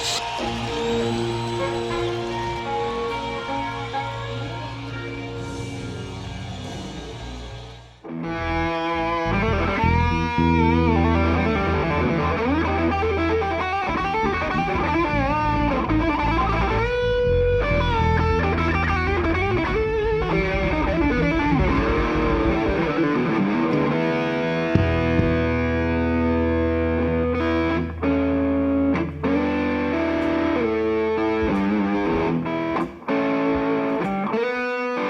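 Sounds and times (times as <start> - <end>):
distorted electric guitar bending notes: 0.0 - 35.0.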